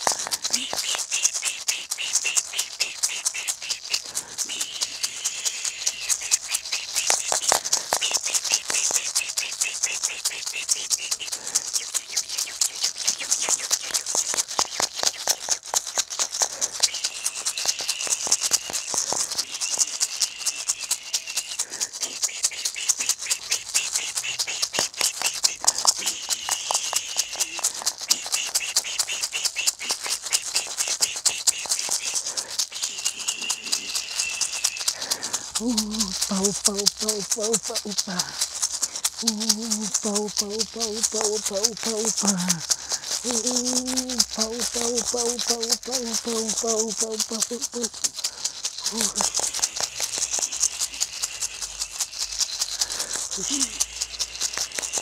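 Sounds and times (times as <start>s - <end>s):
maracas rattling: 0.0s - 55.0s.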